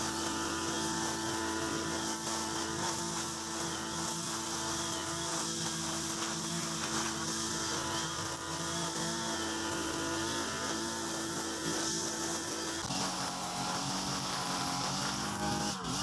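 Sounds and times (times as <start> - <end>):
brush cutter engine running: 0.0 - 16.0
line head cutting grass: 0.0 - 16.0.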